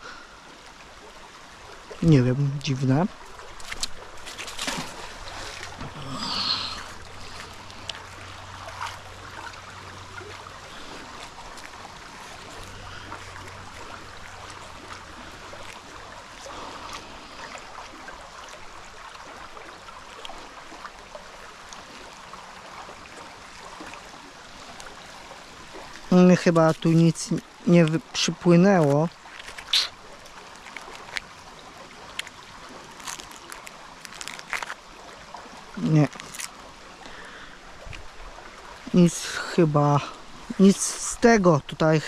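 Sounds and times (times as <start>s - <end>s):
stream flowing over stones: 0.0s - 42.0s.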